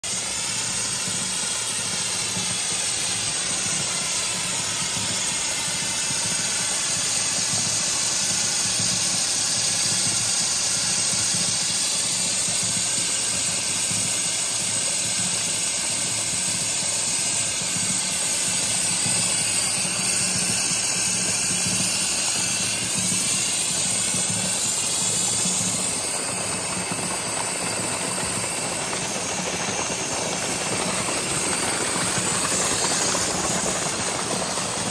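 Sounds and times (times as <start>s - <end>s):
steam hissing: 0.0s - 34.9s
water gushing from a pipe: 0.1s - 34.9s.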